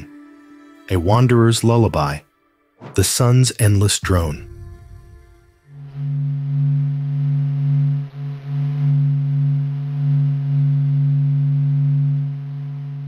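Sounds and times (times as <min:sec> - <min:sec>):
deep steady drone: 0:00.0 - 0:13.0
higher tone: 0:00.0 - 0:13.0.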